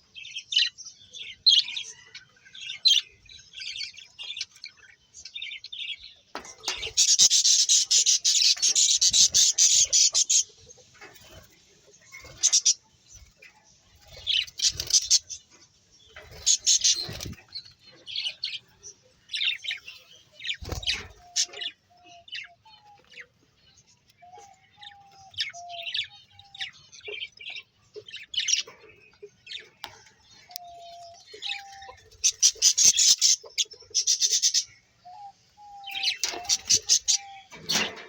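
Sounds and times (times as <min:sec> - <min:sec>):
low steady bird notes: 0:00.0 - 0:38.0
small birds chirping: 0:00.0 - 0:38.0.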